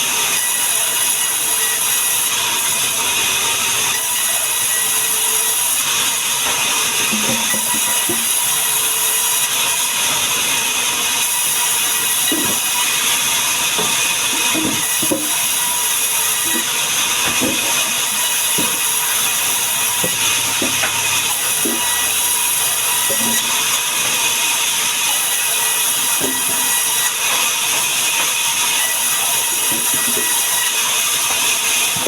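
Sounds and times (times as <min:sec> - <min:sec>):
sawmill saw cutting wood: 0:00.0 - 0:32.0.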